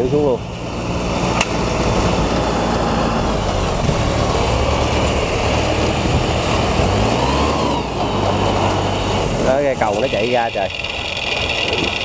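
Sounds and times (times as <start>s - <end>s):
tractor engine humming: 0.0s - 12.0s.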